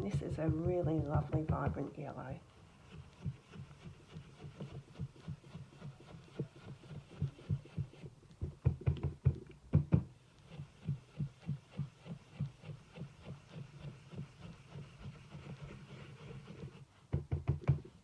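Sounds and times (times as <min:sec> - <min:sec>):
blending brush thudding on ink pad: 0:00.0 - 0:17.9.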